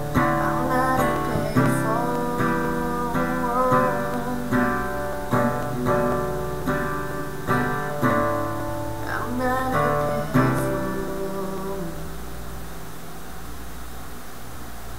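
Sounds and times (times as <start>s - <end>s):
person singing: 0.0s - 12.4s
acoustic guitar strumming: 0.0s - 14.7s.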